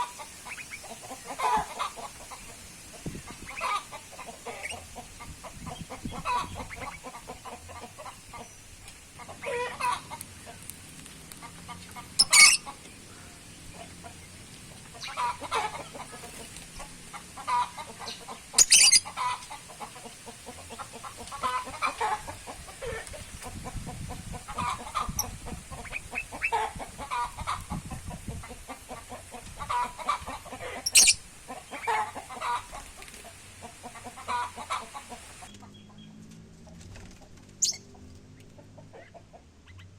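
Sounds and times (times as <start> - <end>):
birds calling: 0.0 - 36.3, 37.3 - 39.9.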